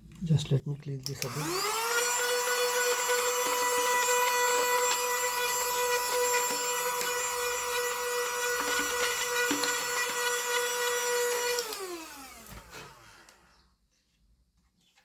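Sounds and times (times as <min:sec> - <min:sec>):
small electric motor whining: 0:01.2 - 0:13.6.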